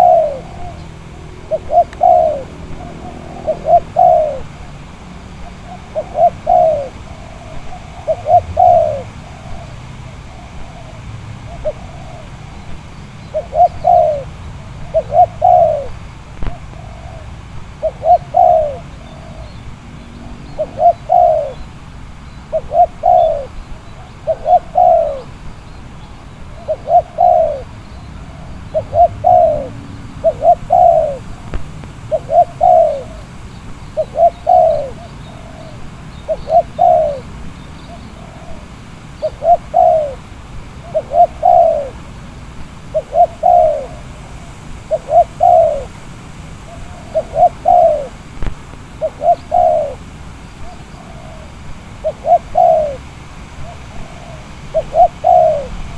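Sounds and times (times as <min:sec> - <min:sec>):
dove cooing: 0:00.0 - 0:55.9
wind rumble on microphone: 0:00.0 - 0:55.9.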